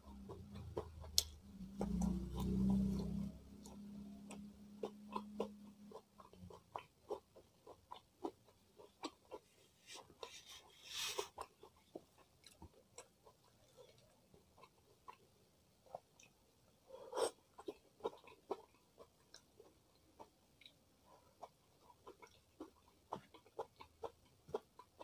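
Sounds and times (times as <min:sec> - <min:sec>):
chewing with wet mouth clicks: 0:00.0 - 0:10.3, 0:11.2 - 0:16.4, 0:17.2 - 0:25.0
low steady hum: 0:00.0 - 0:25.0.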